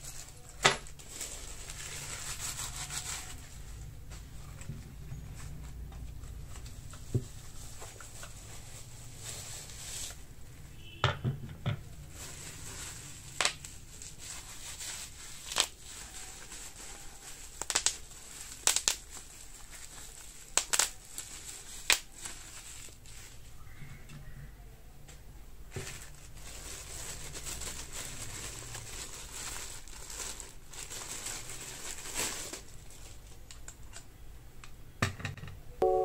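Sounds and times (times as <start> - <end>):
packaging crinkling and rustling: 0.0 - 10.4, 11.8 - 23.5, 25.7 - 34.2.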